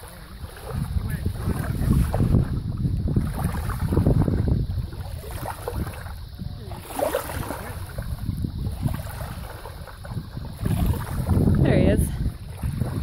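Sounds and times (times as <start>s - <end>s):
small waves lapping: 0.0s - 13.0s
wind rumbling on microphone: 0.0s - 13.0s.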